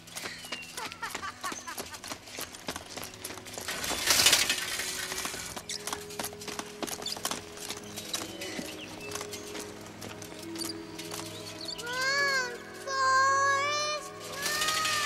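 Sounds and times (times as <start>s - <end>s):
held music tones: 0.0s - 15.0s
running footsteps: 0.0s - 15.0s.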